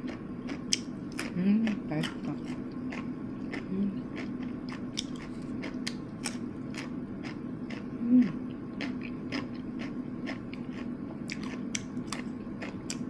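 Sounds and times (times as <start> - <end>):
crunching and chewing fries: 0.0 - 13.0
steady low hum: 0.0 - 13.0.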